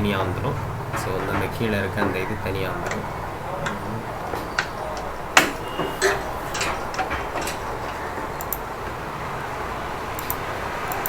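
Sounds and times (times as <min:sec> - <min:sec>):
plastic clips clicking and snapping: 0:00.0 - 0:09.2.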